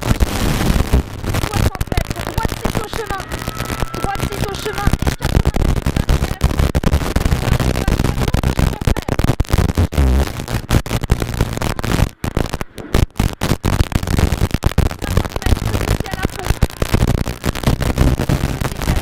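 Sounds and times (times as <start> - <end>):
sharp engine crackles: 0.0 - 19.0.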